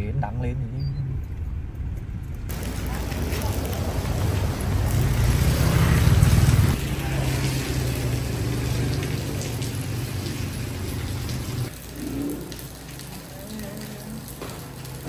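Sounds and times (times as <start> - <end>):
car passing on wet street: 2.5 - 15.0
rain falling: 2.5 - 15.0.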